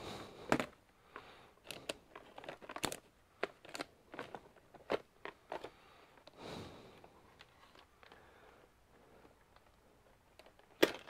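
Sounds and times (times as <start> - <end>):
light clicks and crinkles: 0.5 - 6.4, 7.0 - 11.0.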